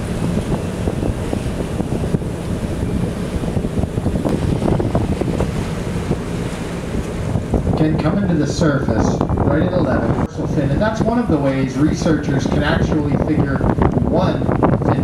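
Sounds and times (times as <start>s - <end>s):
boat running noise: 0.0s - 15.0s
water rushing: 0.0s - 15.0s
wind buffeting microphone: 0.0s - 15.0s.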